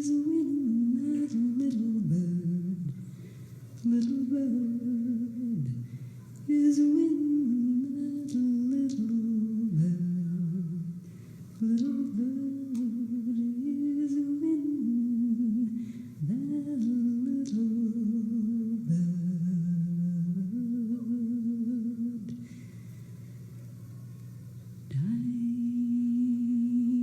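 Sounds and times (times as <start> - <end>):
person humming slow melody: 0.0 - 3.0, 3.8 - 5.9, 6.5 - 11.0, 11.6 - 22.8, 24.9 - 27.0.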